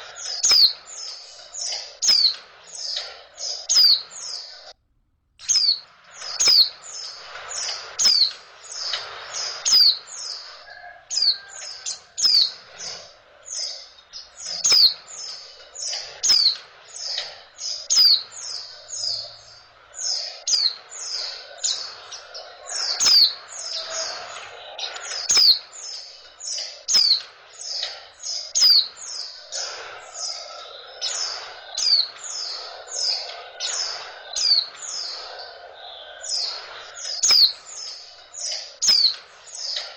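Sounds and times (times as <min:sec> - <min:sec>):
bird chirping rapidly: 0:00.0 - 0:04.7, 0:05.4 - 0:39.9.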